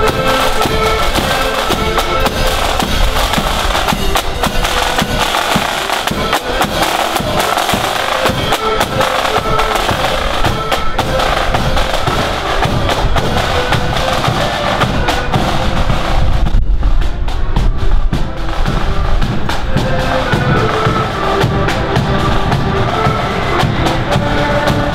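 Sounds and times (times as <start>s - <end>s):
accordion band playing: 0.0s - 24.9s
snare and bass drums: 0.0s - 24.9s.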